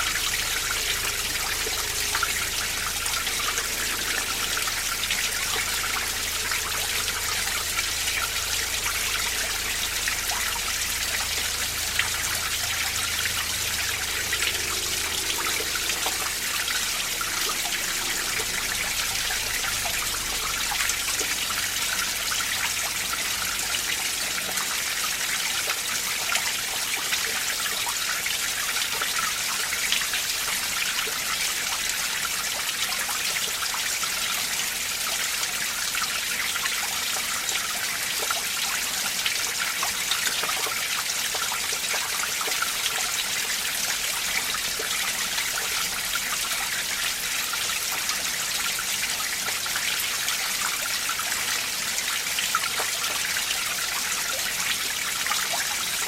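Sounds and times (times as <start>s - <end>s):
water splashes and trickles: 0.0s - 56.0s.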